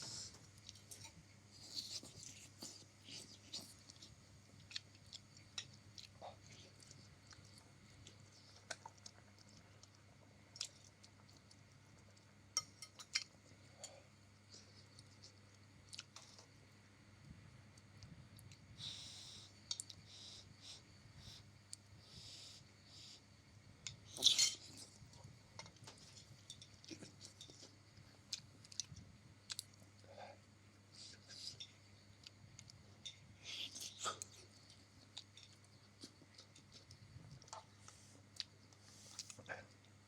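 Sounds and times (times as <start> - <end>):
person chewing noodles: 0.0 - 16.6, 23.8 - 40.0
low steady hum: 0.0 - 40.0.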